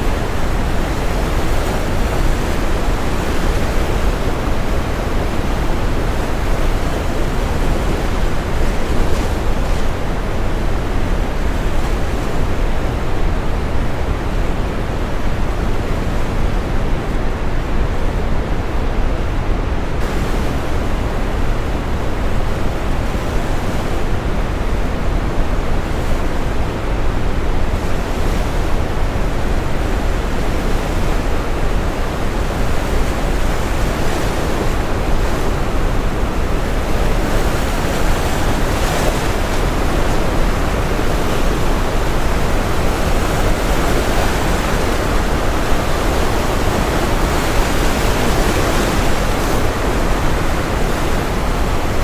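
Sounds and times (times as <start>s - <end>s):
ocean waves washing onto shore: 0.0s - 52.0s.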